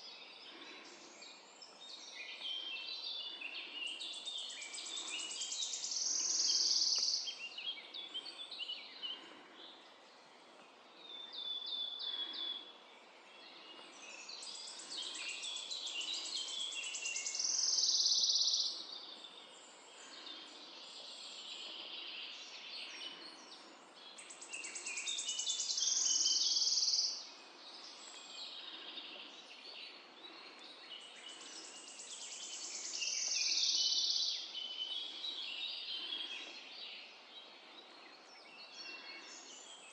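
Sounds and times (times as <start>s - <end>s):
birds singing: 0.0s - 39.9s
loud bird song phrase: 0.0s - 39.9s.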